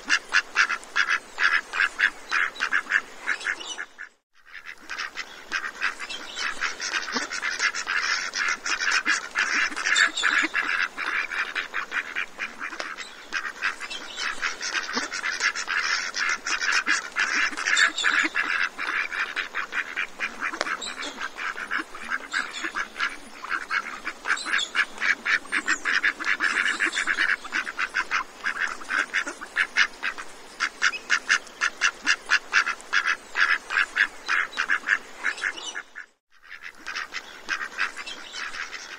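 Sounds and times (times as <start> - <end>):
flock of ducks calling: 0.0 - 38.9.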